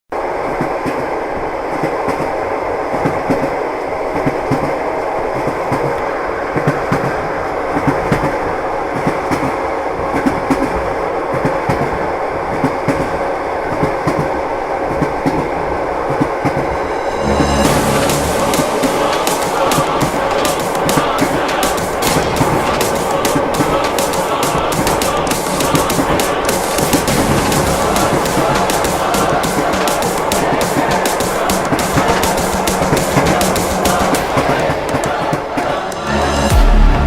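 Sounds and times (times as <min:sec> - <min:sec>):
train rumbling on rails: 0:00.1 - 0:37.0.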